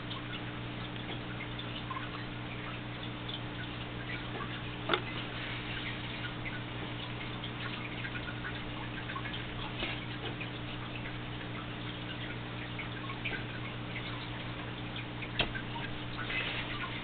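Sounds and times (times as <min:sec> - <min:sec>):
low electrical hum and hiss: 0:00.0 - 0:17.0.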